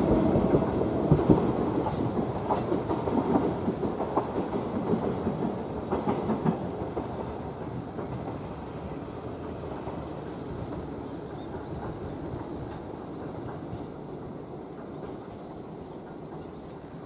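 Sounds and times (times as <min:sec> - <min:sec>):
train rolling rumble: 0:00.0 - 0:17.0
train wheels clacking over rail joints: 0:00.0 - 0:17.0.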